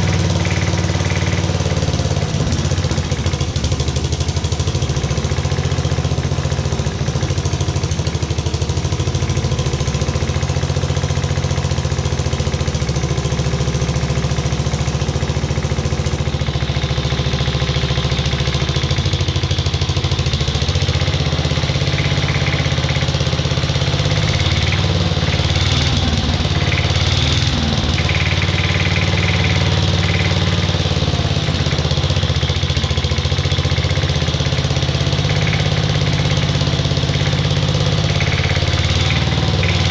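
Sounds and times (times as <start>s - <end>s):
single-cylinder engine running: 0.0s - 39.9s.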